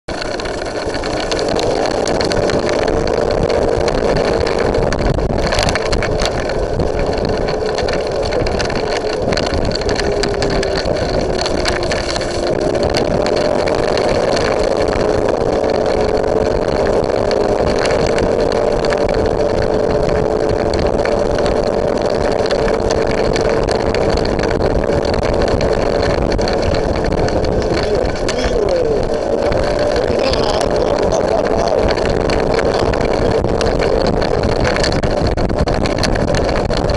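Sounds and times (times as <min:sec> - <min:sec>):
motorbike engine running: 0:00.1 - 0:36.9
wind on microphone: 0:00.1 - 0:36.9.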